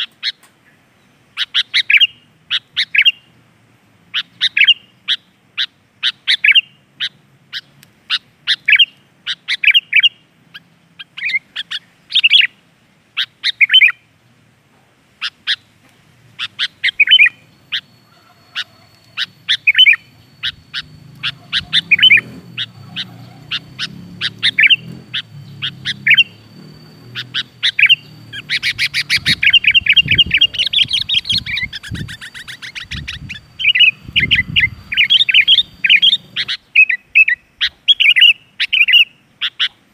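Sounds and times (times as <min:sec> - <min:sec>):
bird chirping: 0:00.0 - 0:03.3, 0:04.1 - 0:12.6, 0:13.2 - 0:14.1, 0:16.4 - 0:39.8.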